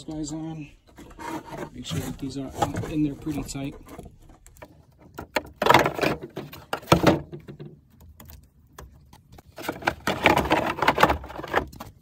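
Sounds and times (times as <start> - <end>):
hands handling plastic ducting: 0.0 - 12.0.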